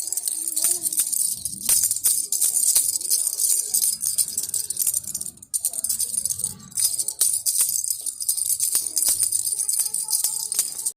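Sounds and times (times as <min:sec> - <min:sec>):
plastic baby rattle shaken: 0:00.0 - 0:10.9.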